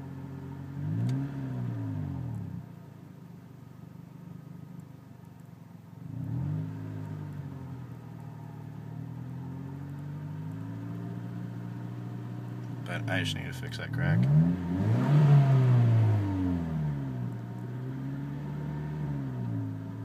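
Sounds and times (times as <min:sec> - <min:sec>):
car engine revving: 0:00.4 - 0:02.7, 0:06.0 - 0:20.0.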